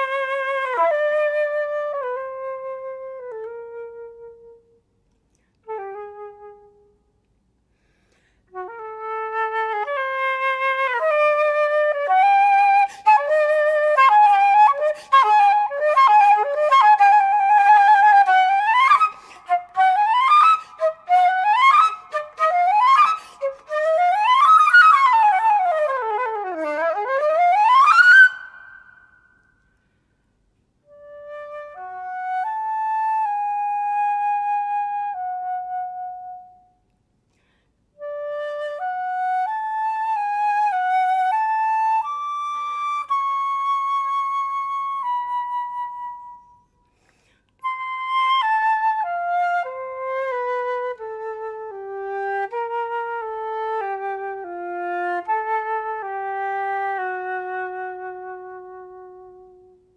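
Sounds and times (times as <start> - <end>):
solo flute playing: 0.0 - 4.9, 5.6 - 7.2, 8.5 - 29.6, 30.8 - 36.8, 38.0 - 59.9.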